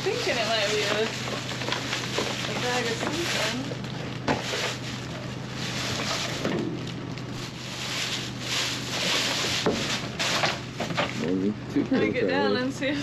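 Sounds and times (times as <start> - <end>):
bag rustling in metal dumpster: 0.0 - 11.3.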